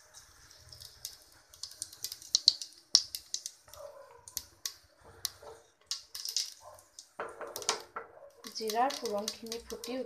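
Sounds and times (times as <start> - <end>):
seeds crackling in hot oil: 0.0 - 10.0.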